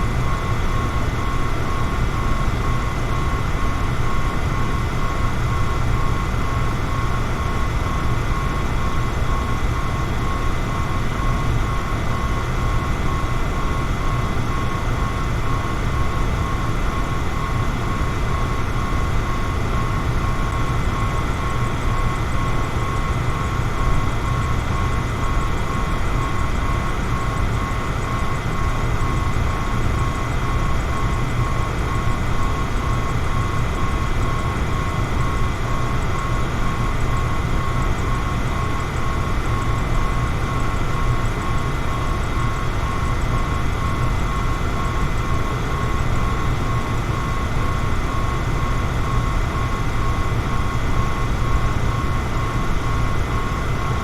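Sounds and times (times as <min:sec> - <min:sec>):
electric fan whirring: 0:00.0 - 0:54.0.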